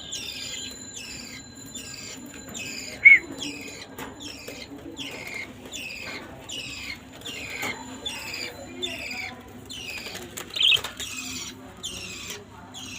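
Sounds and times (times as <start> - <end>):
bird calling: 0.1 - 12.9.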